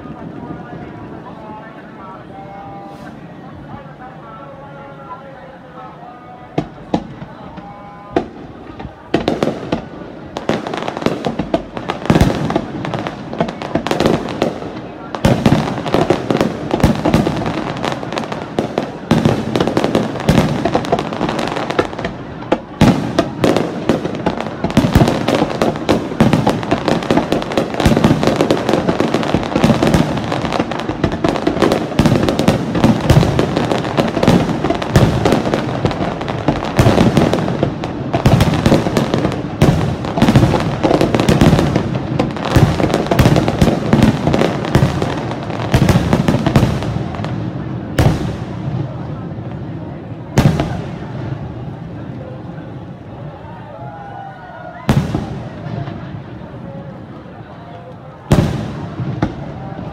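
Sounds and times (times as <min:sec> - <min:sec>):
fireworks bursting bangs and crackle: 0:06.3 - 0:59.9.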